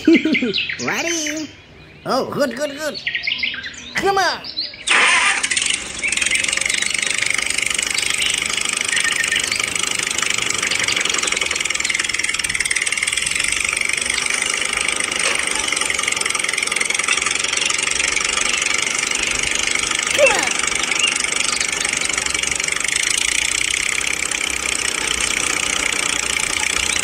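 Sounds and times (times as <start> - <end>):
tractor engine chugging: 4.9 - 27.0.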